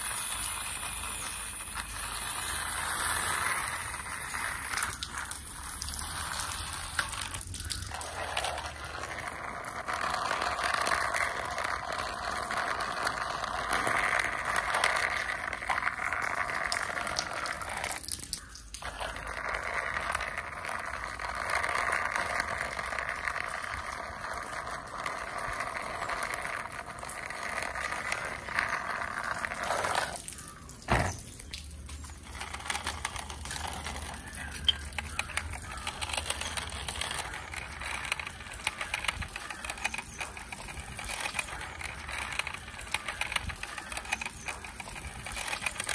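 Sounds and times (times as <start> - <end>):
small clicks and rattles: 0.0 - 45.9
toy wheels whirring on concrete: 0.0 - 45.9.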